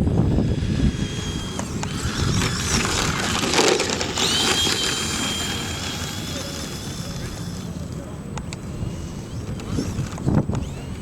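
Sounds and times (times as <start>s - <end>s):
rc truck motor whining: 0.0s - 11.0s
tires crunching over dirt: 0.0s - 11.0s.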